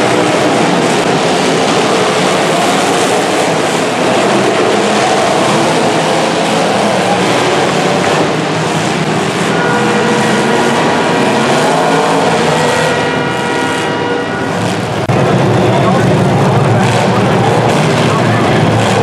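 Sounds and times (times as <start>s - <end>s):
car engines revving unmuffled: 0.0s - 19.0s.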